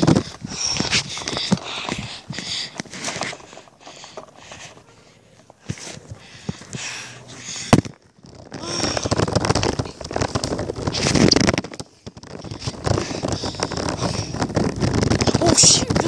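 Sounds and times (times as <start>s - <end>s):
scooter wheels rattling on asphalt: 0.0s - 16.0s.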